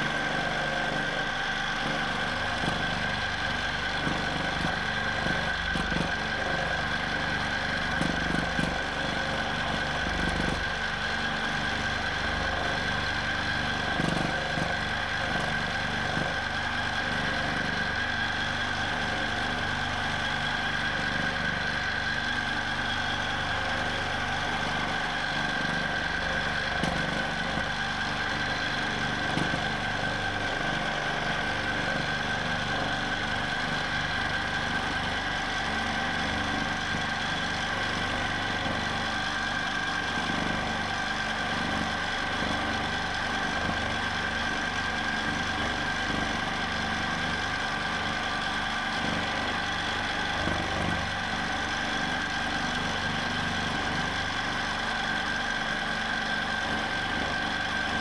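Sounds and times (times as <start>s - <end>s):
quilting machine motor hum: 0.0s - 58.0s.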